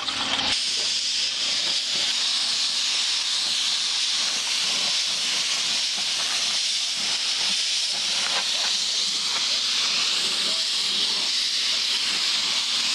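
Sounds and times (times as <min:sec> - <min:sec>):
paint spray gun hissing: 0:00.0 - 0:12.9.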